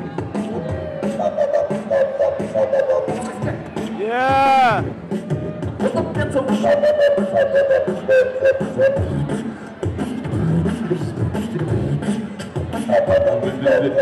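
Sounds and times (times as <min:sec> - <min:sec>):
beatboxing vocal percussion: 0:00.0 - 0:14.0.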